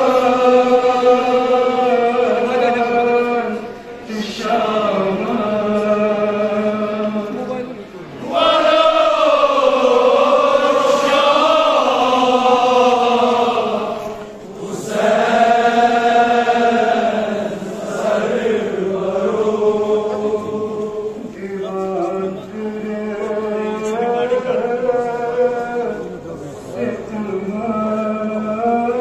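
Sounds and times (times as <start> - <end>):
man chanting a lament: 0.0 - 14.1, 19.4 - 29.0.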